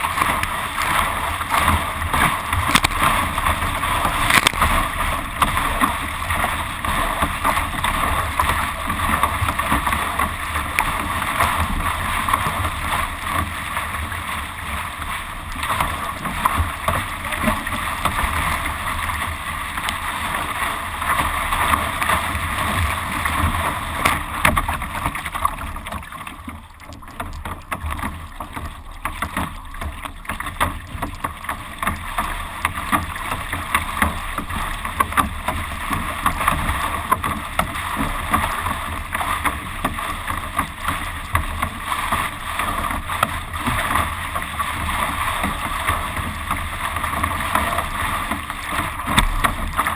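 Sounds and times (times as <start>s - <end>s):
water rushing along boat bow: 0.0s - 49.9s.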